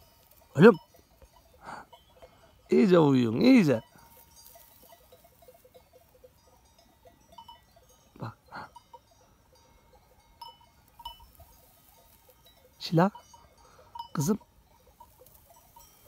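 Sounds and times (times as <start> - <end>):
sheep bells tinkling: 0.0 - 16.0.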